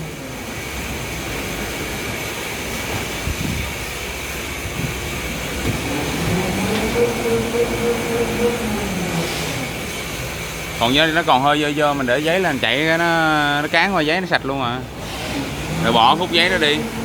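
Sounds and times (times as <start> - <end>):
folding machine running with whine: 0.0 - 17.0.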